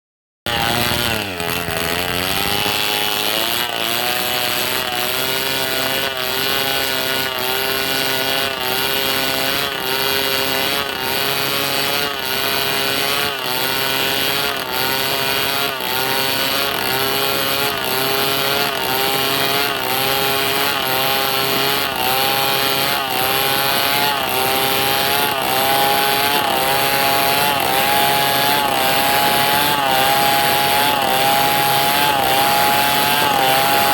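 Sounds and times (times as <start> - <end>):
chainsaw cutting at high speed: 0.5 - 33.9.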